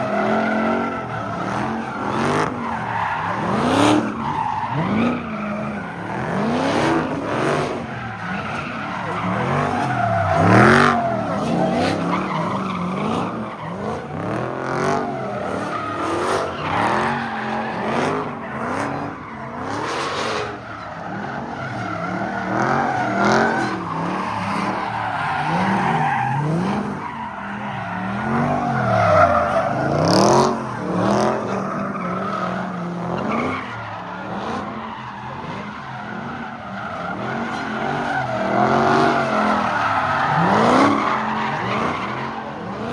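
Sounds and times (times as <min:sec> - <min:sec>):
car engine revving: 0:00.0 - 0:42.9
tyres squealing on pavement: 0:00.0 - 0:42.9.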